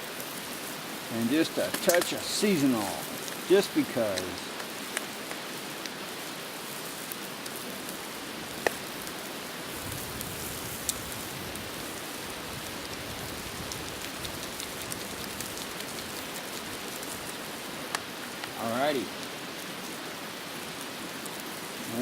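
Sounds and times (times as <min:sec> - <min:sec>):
meat sizzling on a grill: 0:00.0 - 0:22.0
fire popping: 0:00.1 - 0:22.0.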